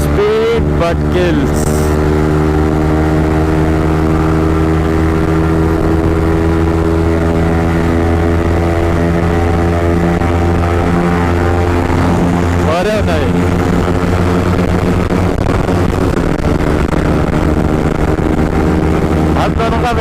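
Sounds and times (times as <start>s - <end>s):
motorcycle engine drone: 0.0s - 20.0s.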